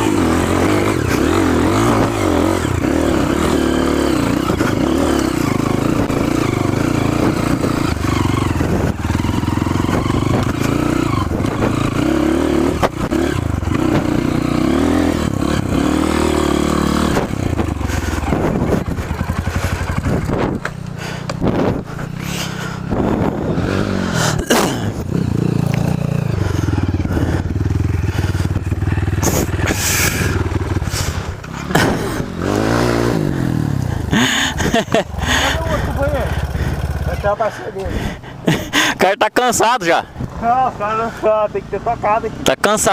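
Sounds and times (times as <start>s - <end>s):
motorcycle engine under load: 0.0s - 39.0s.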